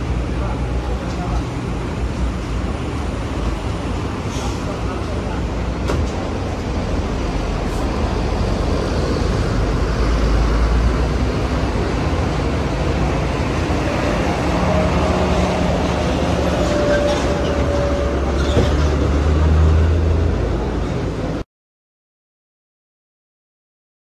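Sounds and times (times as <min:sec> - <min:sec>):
bus diesel engines rumbling: 0:00.0 - 0:21.4.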